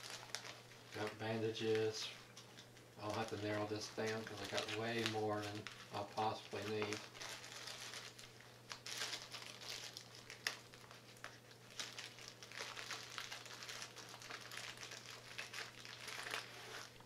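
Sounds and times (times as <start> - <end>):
plastic and paper wrappers crinkling: 0.0 - 17.0
steady low hum: 0.0 - 17.0.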